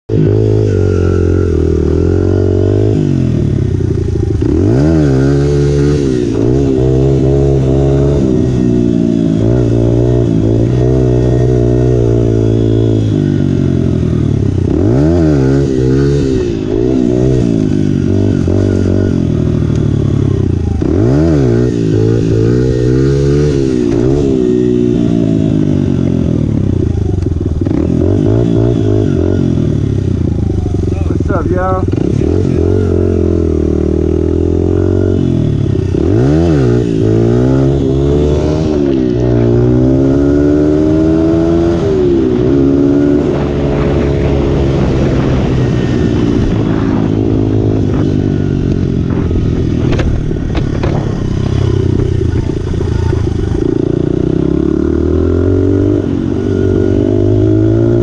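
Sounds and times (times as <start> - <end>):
dirt bike engine revving: 0.1 - 58.0.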